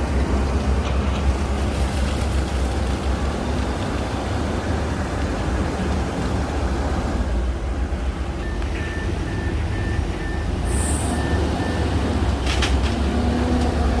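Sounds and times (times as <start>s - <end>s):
heavy diesel machinery rumbling: 0.0s - 14.0s.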